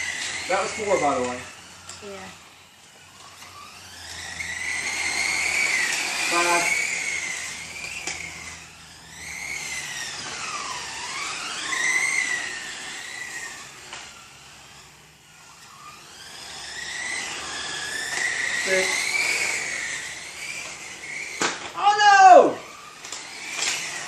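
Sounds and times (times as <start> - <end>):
rc car electric motor whine: 0.0 - 24.0.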